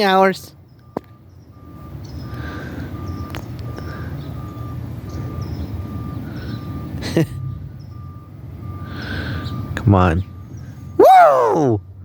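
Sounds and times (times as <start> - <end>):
reverse alarm beeping: 0.7 - 11.0.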